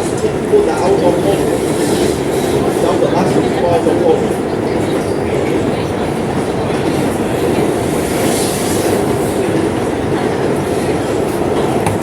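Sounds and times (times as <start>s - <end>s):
subway train rumbling on rails: 0.0s - 12.0s
train clatter: 0.0s - 12.0s.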